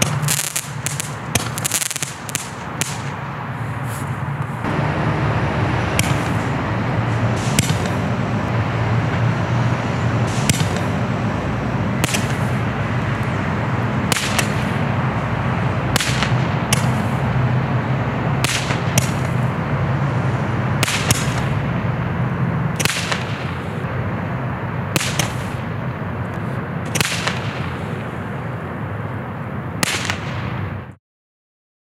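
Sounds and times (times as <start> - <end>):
steady low noise: 0.0 - 31.0.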